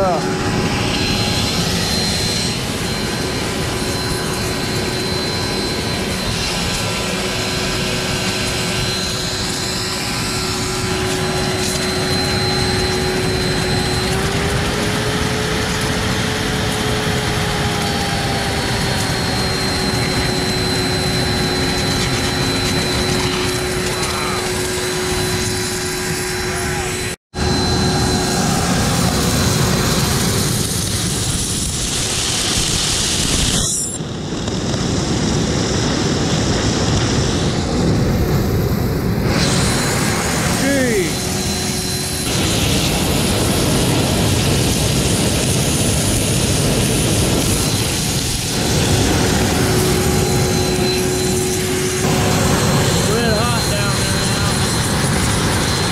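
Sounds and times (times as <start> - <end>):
gas burner roaring: 0.0 - 55.9.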